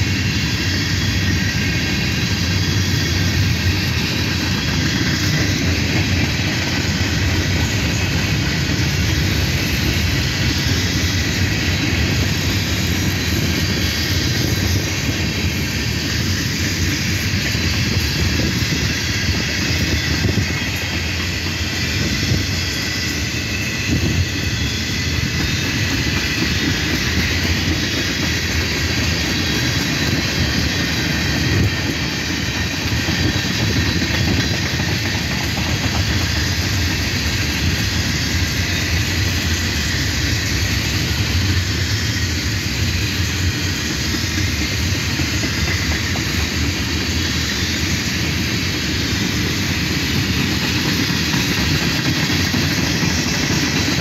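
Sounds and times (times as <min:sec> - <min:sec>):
hiss: 0:00.0 - 0:54.0
loud clacks of train wheels: 0:00.0 - 0:54.0
train wheels rumbling on rail: 0:00.0 - 0:54.0.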